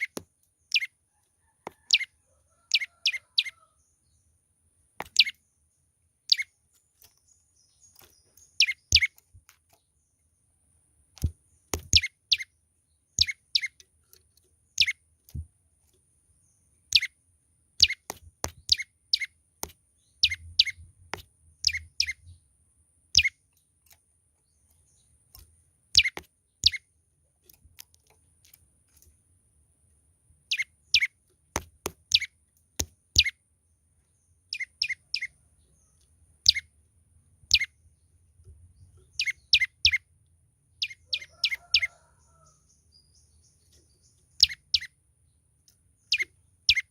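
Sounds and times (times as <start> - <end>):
small songbird calling: 0.0 - 4.4, 5.0 - 10.4, 11.2 - 15.4, 16.3 - 27.0, 30.4 - 36.8, 37.4 - 46.9.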